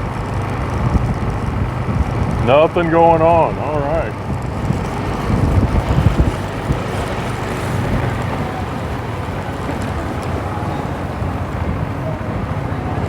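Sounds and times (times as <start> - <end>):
motorbike engine rumble: 0.0 - 13.0
street traffic: 0.0 - 13.0
wind on microphone: 0.0 - 13.0.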